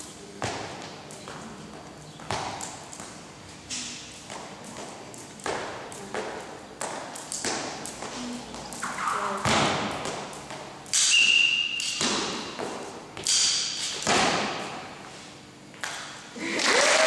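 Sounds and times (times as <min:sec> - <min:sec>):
skipping rope hitting floor: 0:00.0 - 0:15.0, 0:15.8 - 0:16.3.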